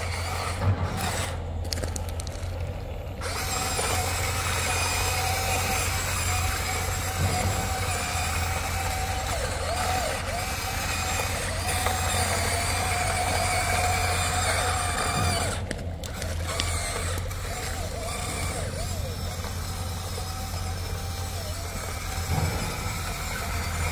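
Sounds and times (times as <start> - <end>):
toy excavator electric motor whine: 0.0 - 23.9.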